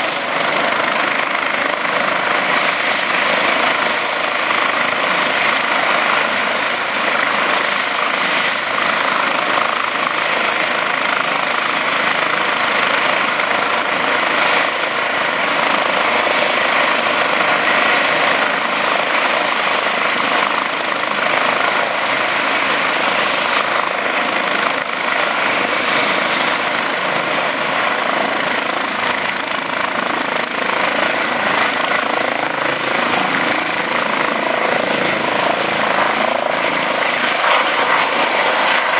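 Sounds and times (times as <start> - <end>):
helicopter rotor and turbine noise: 0.0 - 38.9.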